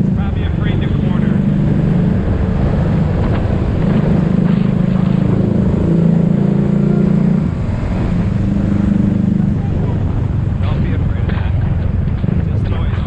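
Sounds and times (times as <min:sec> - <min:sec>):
motorbike engine running: 0:00.0 - 0:13.0
road noise: 0:00.0 - 0:13.0.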